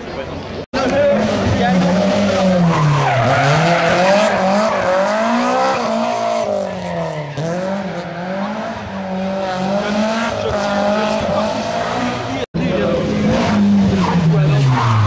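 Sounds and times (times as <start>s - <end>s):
rally car engine revving: 0.8s - 15.0s.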